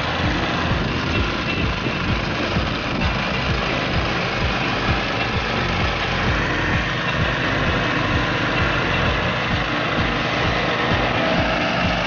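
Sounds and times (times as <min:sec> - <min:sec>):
brush mower engine cutting grass: 0:00.0 - 0:12.0.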